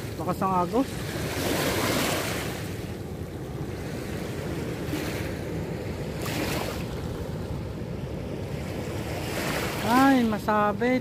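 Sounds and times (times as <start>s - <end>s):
river current rushing: 0.0s - 3.0s, 3.6s - 11.0s.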